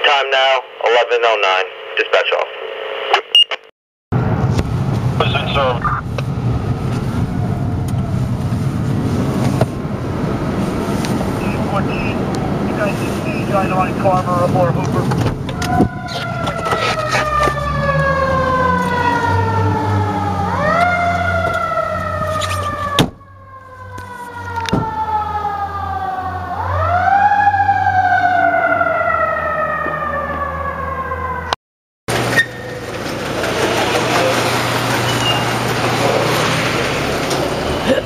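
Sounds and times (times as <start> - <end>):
road noise: 4.1 - 38.0
truck engine hum: 4.2 - 30.8, 32.1 - 38.0
fire engine siren wailing: 5.2 - 38.0.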